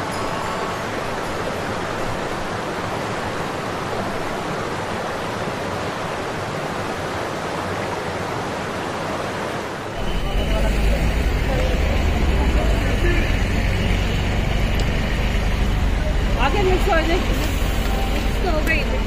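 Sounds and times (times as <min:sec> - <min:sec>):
fast river rushing: 0:00.0 - 0:19.0.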